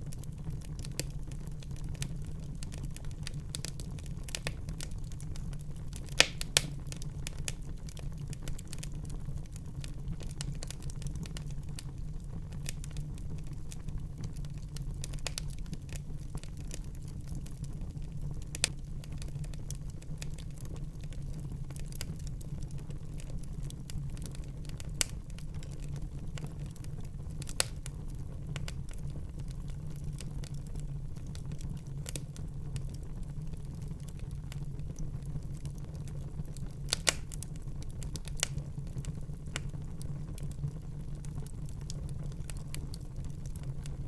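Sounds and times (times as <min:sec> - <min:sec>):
fire crackling: 0:00.0 - 0:44.0
fire popping: 0:00.0 - 0:44.0
flames rumbling: 0:00.0 - 0:44.0.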